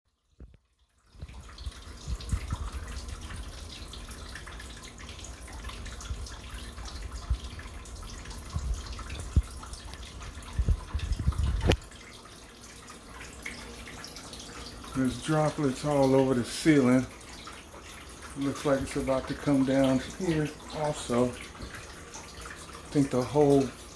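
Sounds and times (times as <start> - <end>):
water dripping and trickling: 0.1 - 23.9.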